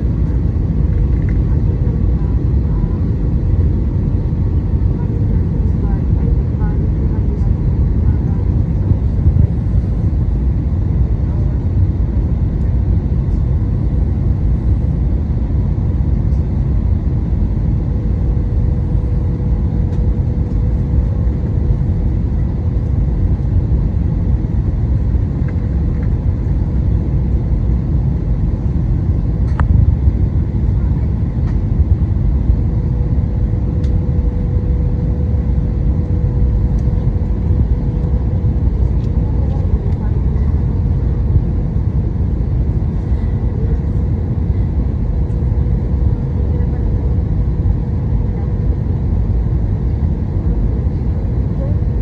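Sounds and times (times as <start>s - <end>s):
airliner engine and airflow rumble: 0.0s - 52.0s.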